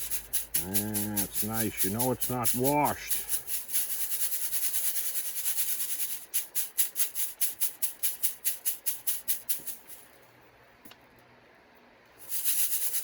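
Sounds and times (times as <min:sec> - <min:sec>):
gravel rattling in a sieve: 0:00.0 - 0:10.2, 0:12.2 - 0:13.0.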